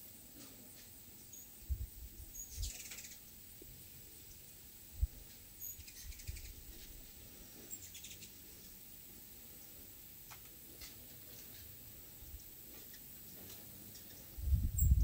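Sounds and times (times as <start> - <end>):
hummingbirds chipping and twittering: 0.0 - 15.0.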